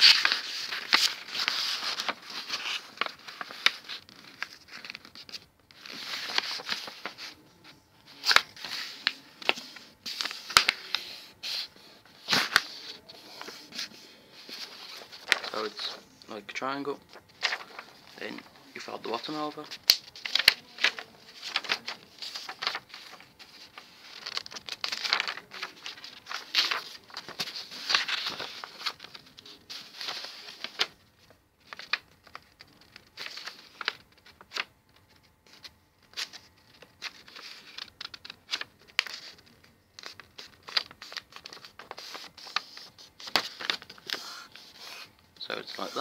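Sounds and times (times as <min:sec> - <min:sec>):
paper rustling and creasing: 0:00.0 - 0:46.0.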